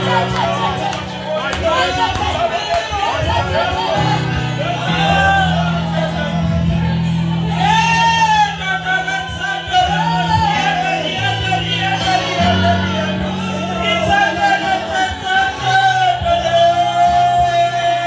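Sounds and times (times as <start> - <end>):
gospel singing: 0.0 - 18.0.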